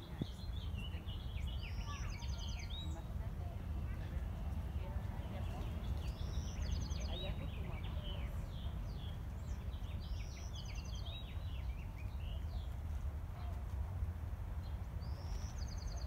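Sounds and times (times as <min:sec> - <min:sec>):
songbird singing: 0:00.0 - 0:13.6, 0:14.6 - 0:16.0.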